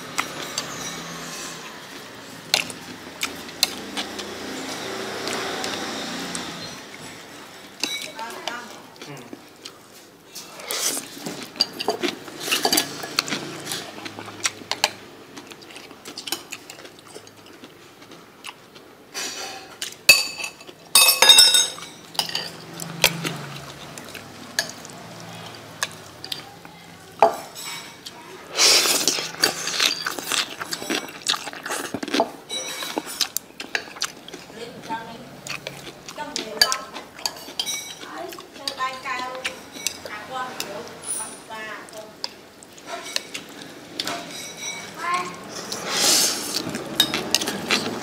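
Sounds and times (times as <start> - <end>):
utensils clinking against a bowl: 0.0 - 9.1, 10.3 - 17.7, 19.1 - 48.0.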